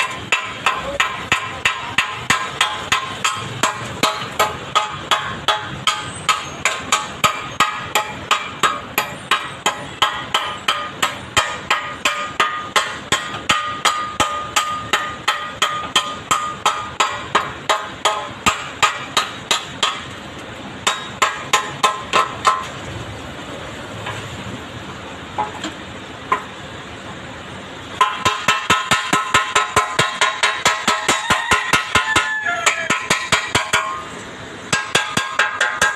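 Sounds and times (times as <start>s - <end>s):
hammer striking steel: 0.0s - 20.2s, 20.8s - 22.8s, 28.0s - 35.9s.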